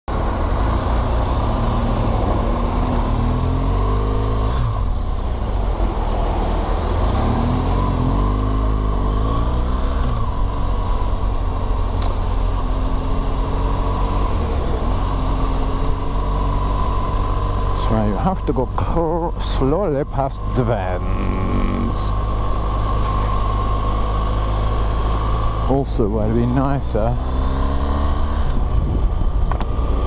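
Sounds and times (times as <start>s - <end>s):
road noise rushing: 0.1s - 30.0s
motorcycle engine revving: 0.4s - 19.7s, 20.4s - 30.0s.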